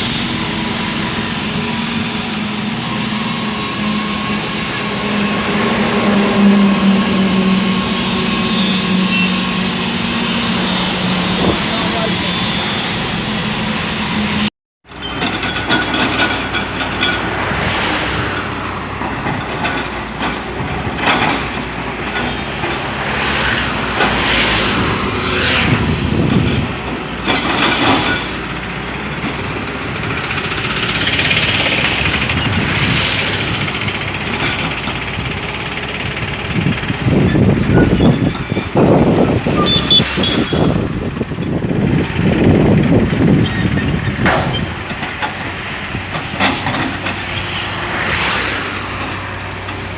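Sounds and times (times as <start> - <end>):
construction machinery diesel rumble: 0.0 - 49.9.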